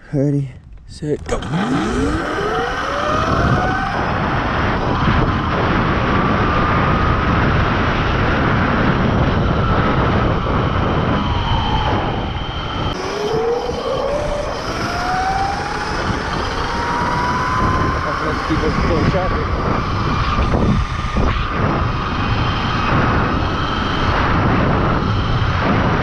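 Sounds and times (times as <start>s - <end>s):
wind rush on microphone: 0.2s - 26.0s
electric motor whining: 1.3s - 26.0s.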